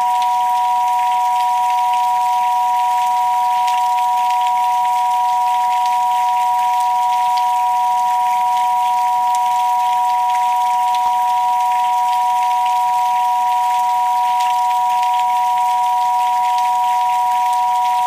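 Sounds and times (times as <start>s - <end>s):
rain hiss and patter: 0.0s - 18.0s
two steady sine tones: 0.0s - 18.0s.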